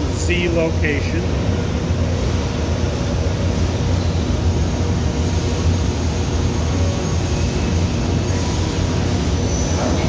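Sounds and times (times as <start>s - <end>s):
milling machine humming: 0.0s - 10.0s.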